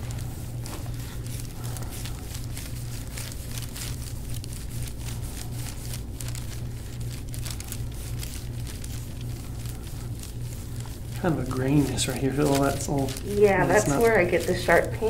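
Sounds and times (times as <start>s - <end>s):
steady low hum: 0.0s - 15.0s
tissue crackling under pressure: 0.0s - 15.0s.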